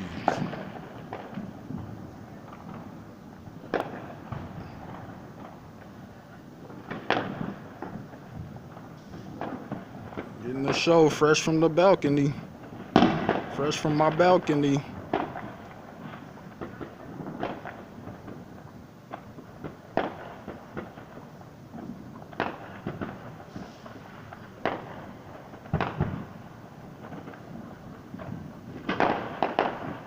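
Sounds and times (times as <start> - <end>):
distant fireworks bangs and pops: 0.0 - 30.0.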